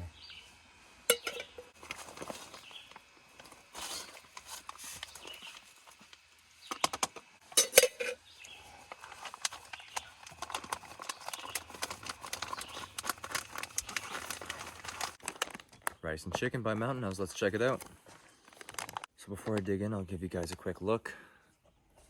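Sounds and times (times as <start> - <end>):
handling camp cooking gear: 0.1 - 21.0.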